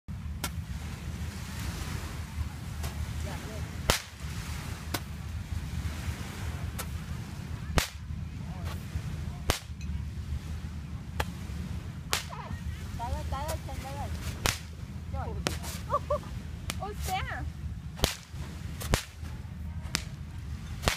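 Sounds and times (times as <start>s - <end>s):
steady low rumble: 0.1s - 20.9s.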